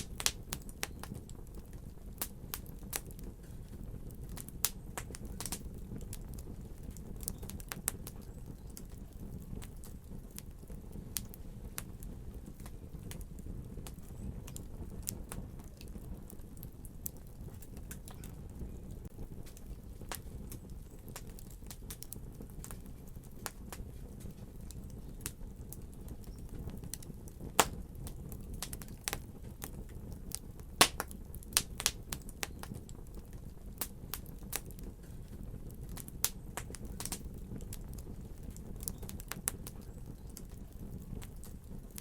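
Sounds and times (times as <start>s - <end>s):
fire crackling and snapping: 0.0s - 42.0s.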